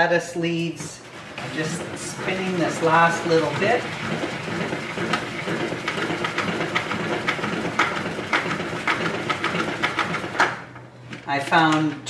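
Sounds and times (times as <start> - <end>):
salad spinner whirring: 0.0 - 10.8.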